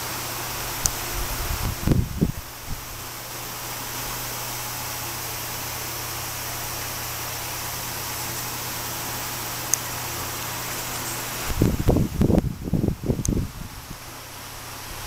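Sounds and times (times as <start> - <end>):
low even hum: 0.0 - 15.0
steady background hiss: 0.0 - 15.0.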